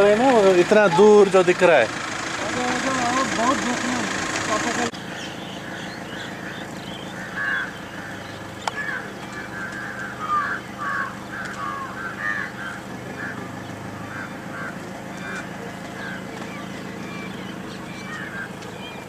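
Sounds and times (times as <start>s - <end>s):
birds calling: 0.0s - 19.0s
steady low hum: 1.7s - 19.0s.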